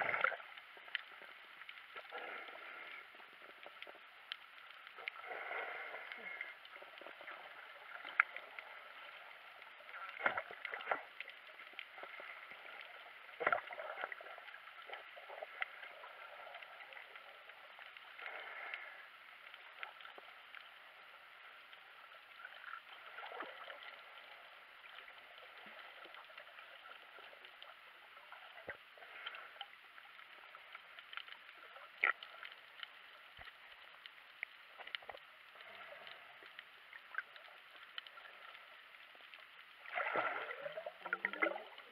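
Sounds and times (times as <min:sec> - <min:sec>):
muffled underwater hiss: 0:00.0 - 0:41.9.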